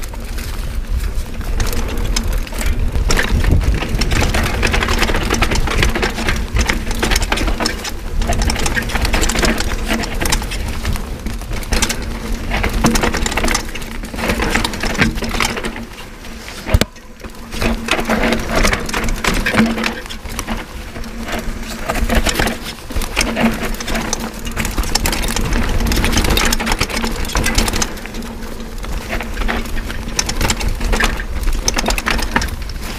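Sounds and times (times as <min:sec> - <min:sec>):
bike rattling: 0:00.0 - 0:32.9
tyres crunching on stones: 0:00.0 - 0:32.9.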